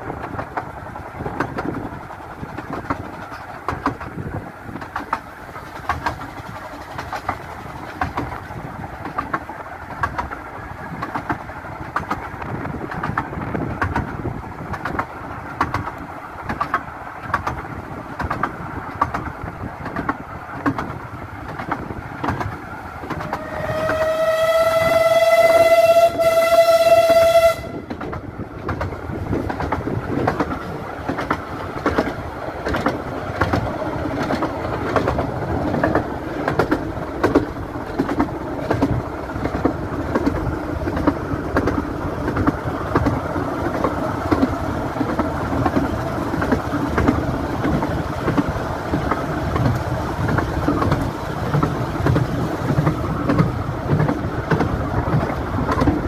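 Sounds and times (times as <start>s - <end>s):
train carriage rumble: 0.0s - 56.0s
wheels clicking on track: 0.0s - 56.0s.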